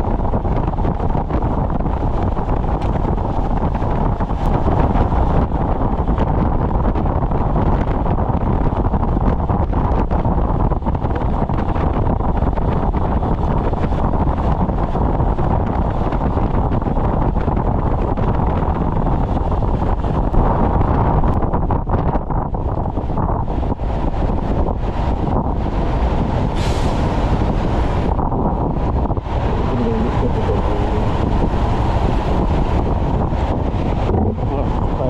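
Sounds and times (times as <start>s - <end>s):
wind roar on microphone: 0.0s - 35.0s.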